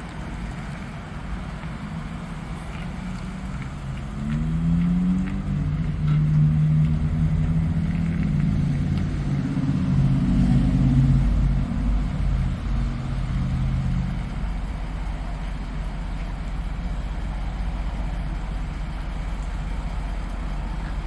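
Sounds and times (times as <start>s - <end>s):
van engine revving lightly: 0.0s - 21.0s.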